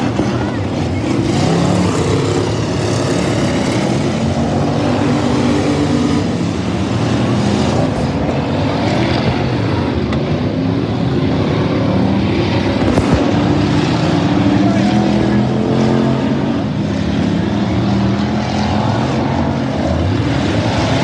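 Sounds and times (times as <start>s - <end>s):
racing car engines: 0.0s - 21.0s.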